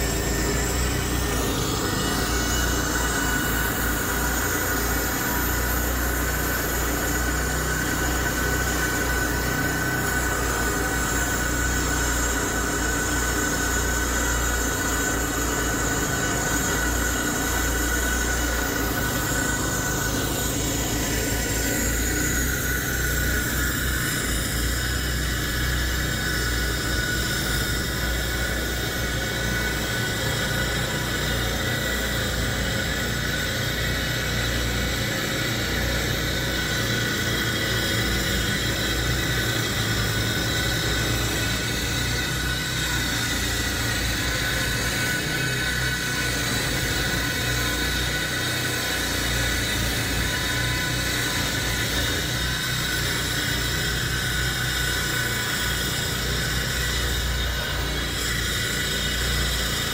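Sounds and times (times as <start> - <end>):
motor running with rumble and whine: 0.0 - 59.9.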